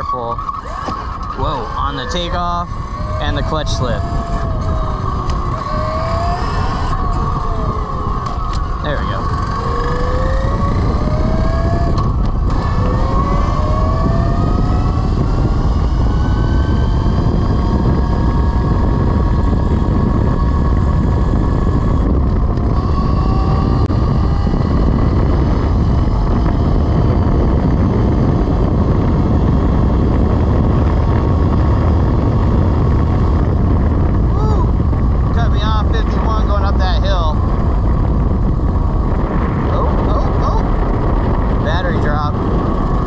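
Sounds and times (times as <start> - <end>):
electric motor whine: 0.0 - 43.0
wind rush on microphone: 0.0 - 43.0.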